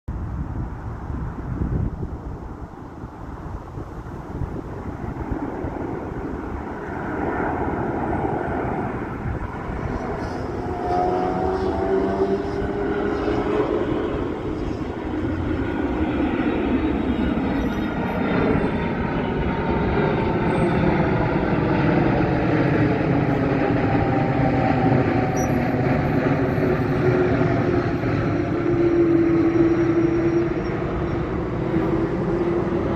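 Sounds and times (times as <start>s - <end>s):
jet engines passing by: 0.1s - 32.9s.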